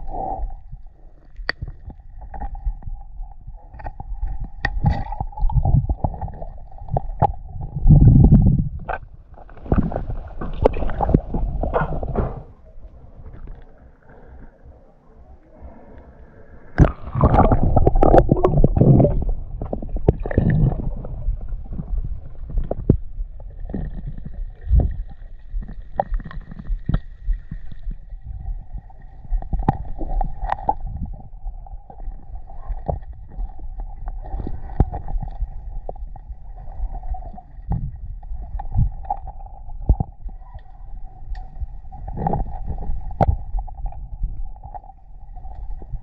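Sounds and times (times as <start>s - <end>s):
faint steady hum: 0.0s - 46.0s
underwater gurgling and rumbling: 0.0s - 46.0s.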